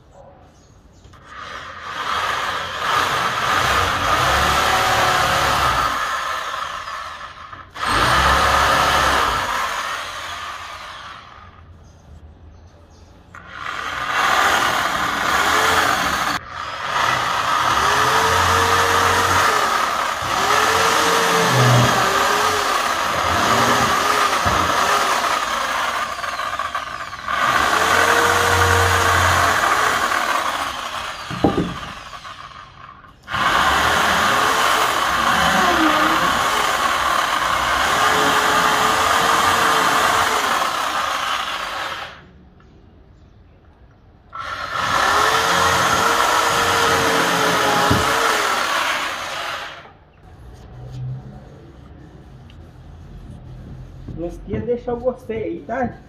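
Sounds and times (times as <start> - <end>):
electric drill boring into wood: 1.1 - 11.6, 13.3 - 42.3, 44.3 - 50.0.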